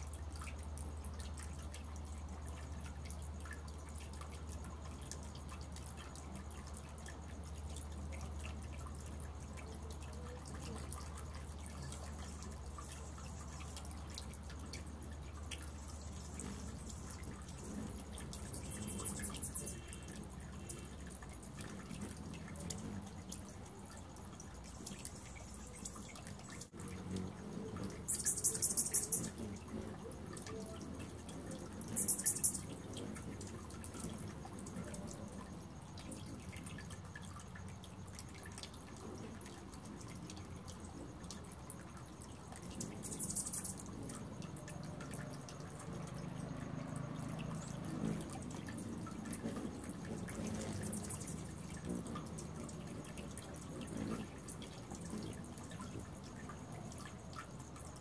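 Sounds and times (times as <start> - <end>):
low steady hum: 0.0 - 58.0
hummingbirds chipping: 0.1 - 58.0.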